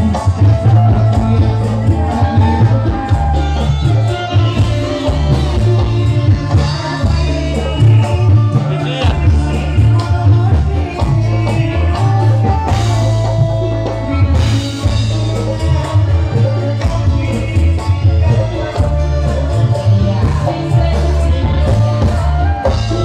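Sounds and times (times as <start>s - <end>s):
music with steady bass beat: 0.0s - 23.0s.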